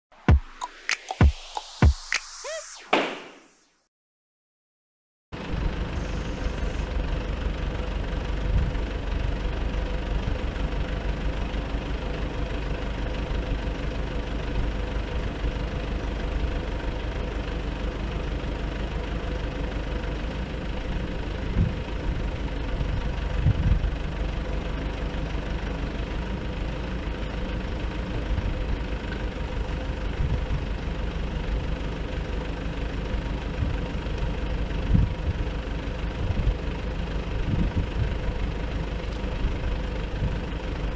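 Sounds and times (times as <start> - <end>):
diesel engine running: 5.4 - 40.9.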